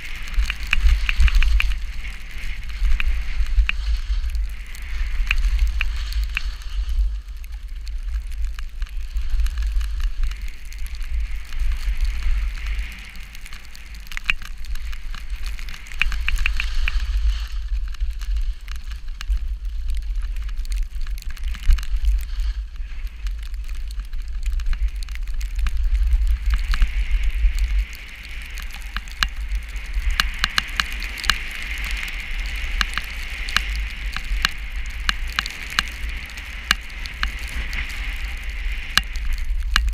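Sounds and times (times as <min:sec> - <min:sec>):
rushing hiss with crackling ticks: 0:00.0 - 0:39.9
wind buffeting microphone: 0:00.0 - 0:39.9.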